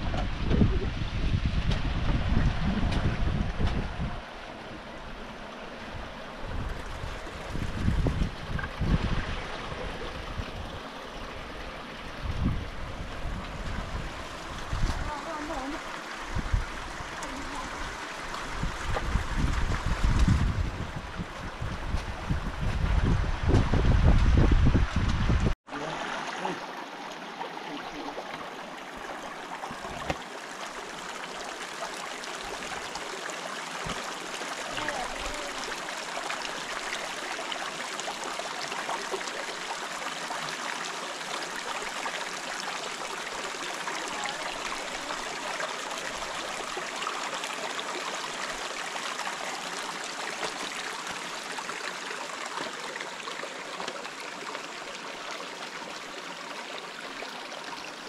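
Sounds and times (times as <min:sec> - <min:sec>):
river water rushing: 0:04.2 - 0:21.2, 0:25.7 - 0:58.0.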